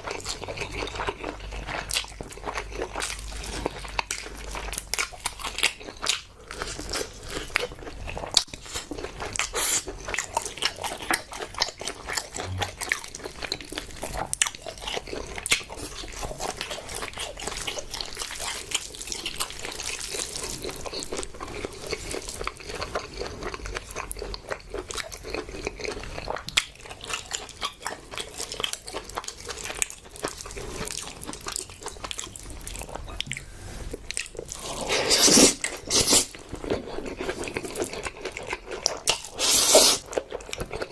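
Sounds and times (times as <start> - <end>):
chewing and biting food: 0.0 - 40.9.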